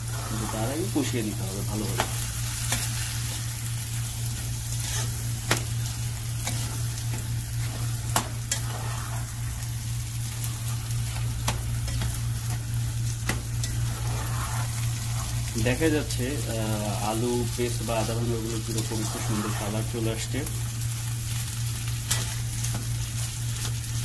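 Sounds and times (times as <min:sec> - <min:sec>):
potatoes sizzling in oil: 0:00.0 - 0:24.0
steady low hum: 0:00.0 - 0:24.0.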